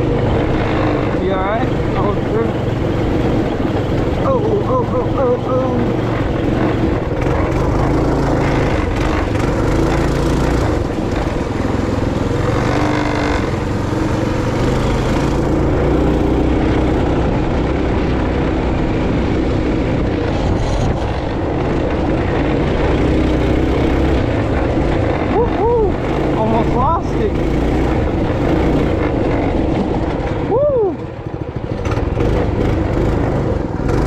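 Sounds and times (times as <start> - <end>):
motorbike engine running: 0.0 - 34.0
wind rumble on microphone: 0.0 - 34.0.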